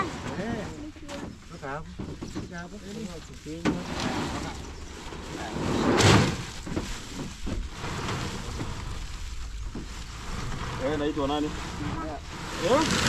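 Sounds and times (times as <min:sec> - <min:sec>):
sack scraping across plastic: 0:00.0 - 0:13.0.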